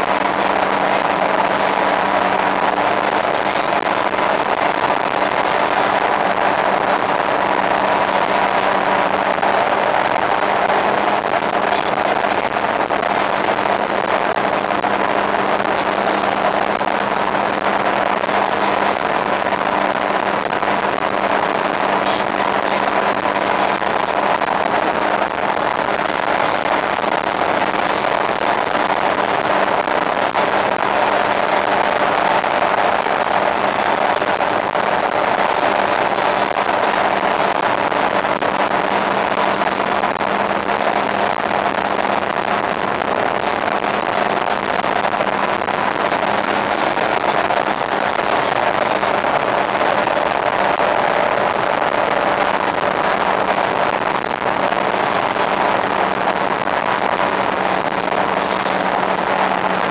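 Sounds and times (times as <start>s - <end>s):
boat motor running: 0.0s - 59.9s.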